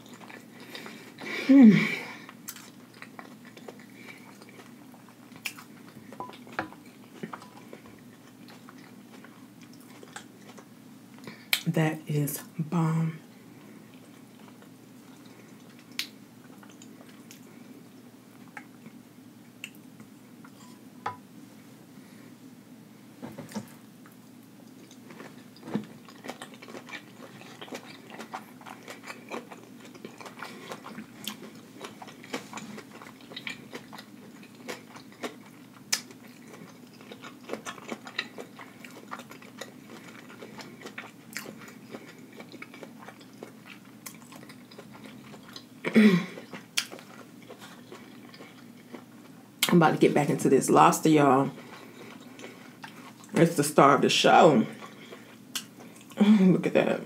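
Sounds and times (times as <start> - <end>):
wet chewing and lip-smacking: 0.0 - 1.4, 2.2 - 11.7, 13.9 - 20.6, 23.5 - 49.7, 51.6 - 53.4, 54.7 - 56.2.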